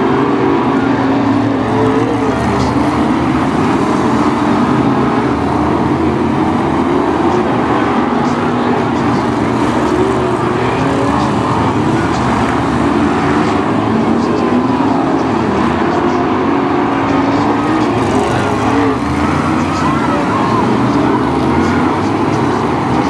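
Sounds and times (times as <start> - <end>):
race car engines running: 0.0 - 23.0.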